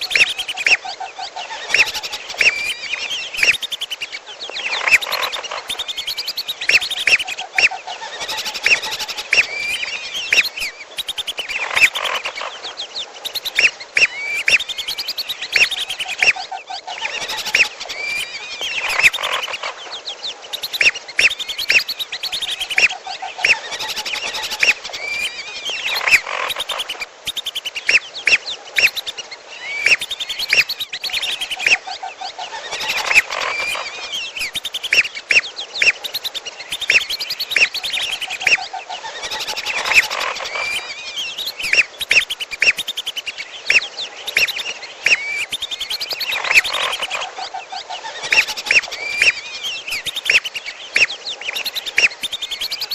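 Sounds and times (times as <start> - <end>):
rapid high bird chirps and whistles: 0.0 - 0.8, 1.6 - 12.5, 13.2 - 16.4, 17.0 - 19.6, 20.5 - 31.8, 32.7 - 38.6, 39.2 - 47.2, 48.3 - 52.9.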